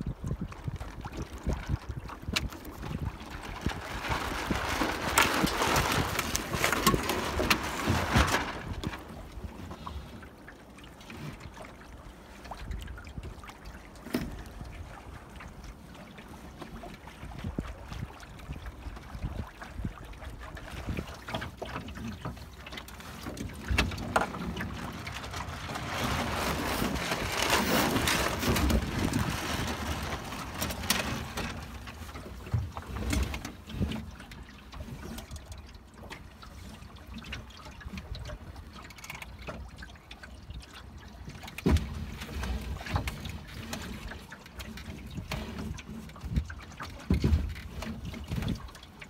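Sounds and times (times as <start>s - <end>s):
water splashing along boat hull: 0.0s - 49.0s.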